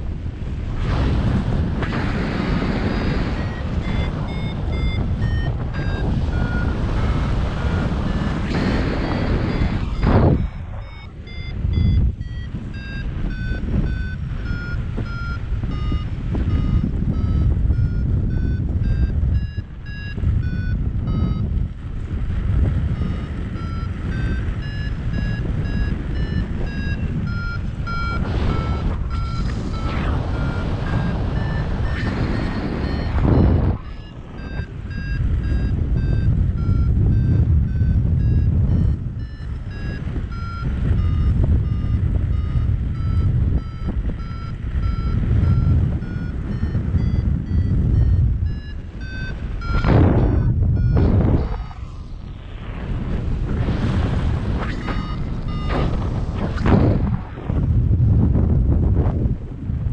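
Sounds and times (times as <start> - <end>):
wind on microphone: 0.0 - 59.9
variometer beeping: 1.8 - 52.4, 54.5 - 57.2.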